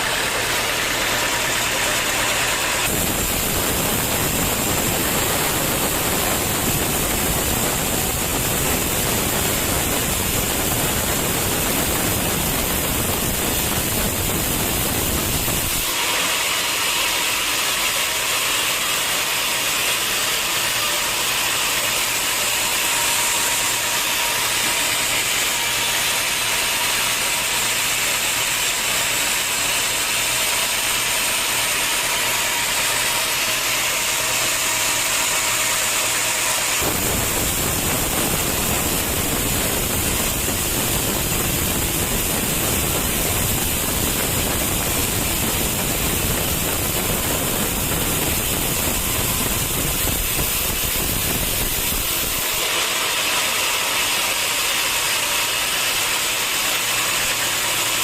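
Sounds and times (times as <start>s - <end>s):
sawmill saw cutting wood: 0.0s - 58.0s.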